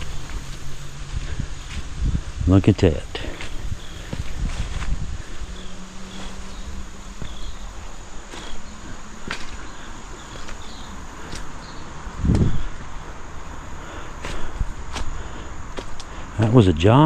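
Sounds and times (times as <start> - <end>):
insects chirping: 0.0 - 17.0
steady background hiss: 0.0 - 17.0.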